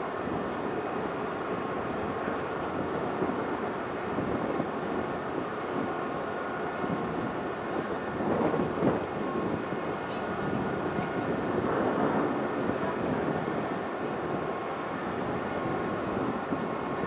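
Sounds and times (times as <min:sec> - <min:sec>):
ship engines running: 0:00.0 - 0:17.0
wind buffeting microphone: 0:00.0 - 0:17.0.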